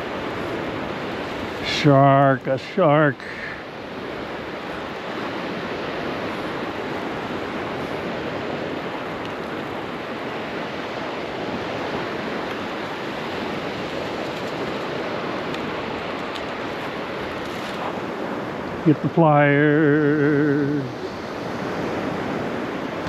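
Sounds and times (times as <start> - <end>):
surf washing on sandy beach: 0.0 - 23.0.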